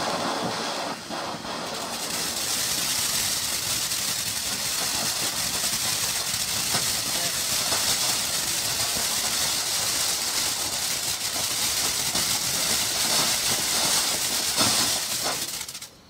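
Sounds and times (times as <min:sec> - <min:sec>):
firework fountain hissing: 0:00.0 - 0:16.0
sharp firework pops: 0:00.0 - 0:16.0.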